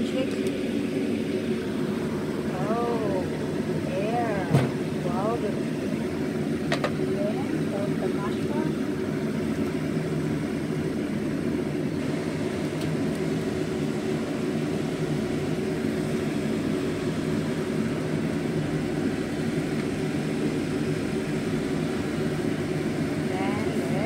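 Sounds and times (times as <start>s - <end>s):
soup boiling in a pot: 0.0s - 24.0s
steady whirring drone: 0.0s - 24.0s.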